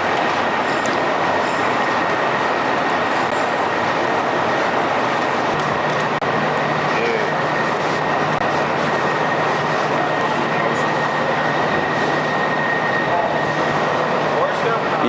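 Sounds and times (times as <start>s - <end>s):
machinery high whine: 0.0s - 15.0s
machinery low hum: 0.0s - 15.0s.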